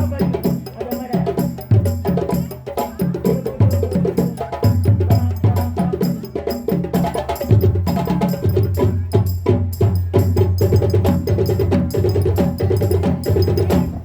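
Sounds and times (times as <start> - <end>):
drum ensemble fast rhythm: 0.0 - 14.0.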